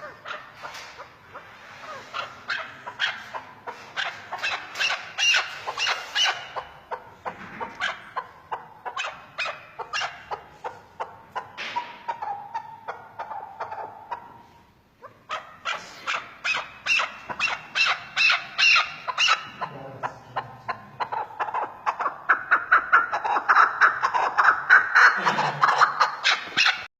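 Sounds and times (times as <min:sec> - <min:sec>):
partridge calling: 0:00.0 - 0:26.9.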